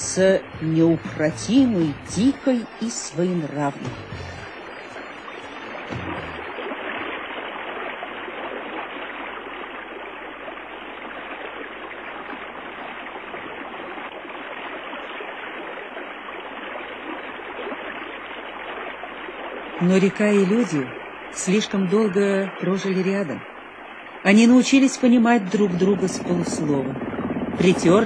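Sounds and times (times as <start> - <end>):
river water rushing over rapids: 0.0 - 28.0.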